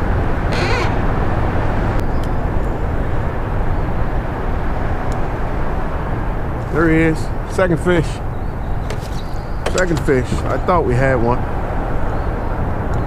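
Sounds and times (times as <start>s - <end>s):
boat engine rumble: 0.0s - 12.9s.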